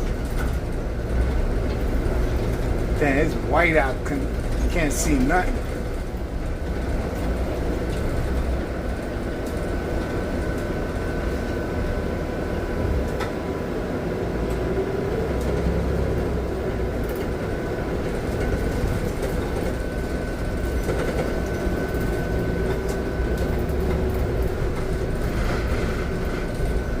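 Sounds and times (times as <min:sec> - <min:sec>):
bus engine and road noise: 0:00.0 - 0:27.0
faint steady whine: 0:00.0 - 0:27.0.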